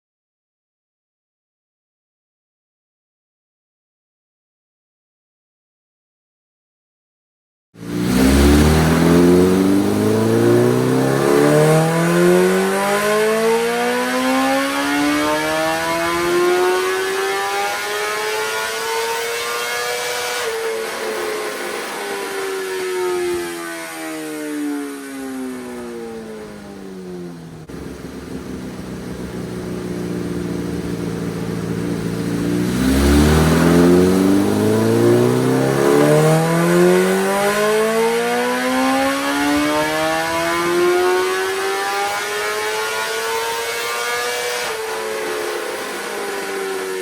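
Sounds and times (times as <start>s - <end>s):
motorcycle engine revving on dyno: 7.8s - 47.0s.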